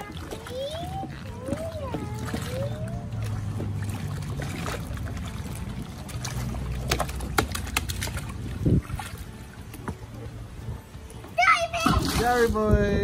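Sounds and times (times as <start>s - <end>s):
water sloshing in paddling pool: 0.0s - 10.6s, 11.3s - 12.7s.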